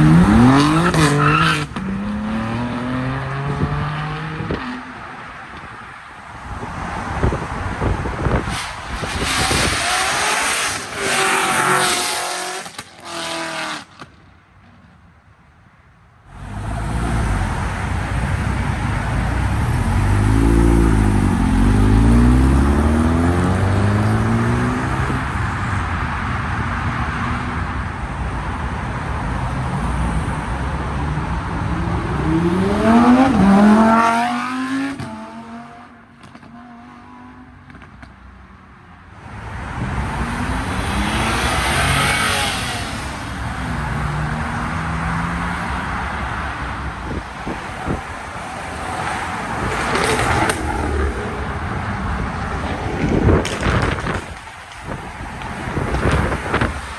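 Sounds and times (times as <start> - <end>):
sports car engines revving: 0.0 - 5.7, 7.2 - 14.0, 16.3 - 25.8, 29.4 - 38.1, 39.7 - 56.9
road noise: 0.0 - 56.9.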